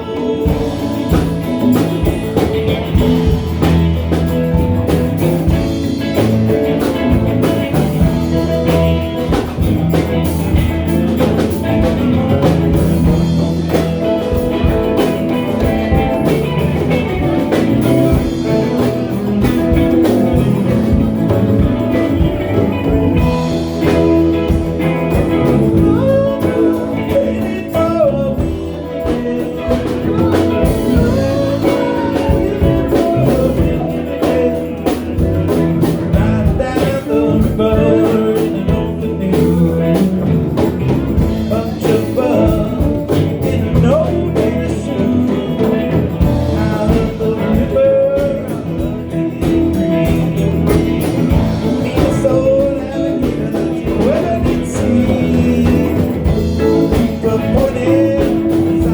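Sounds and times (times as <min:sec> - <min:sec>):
live blues-rock band: 0:00.0 - 0:58.9
person singing: 0:00.0 - 0:58.9.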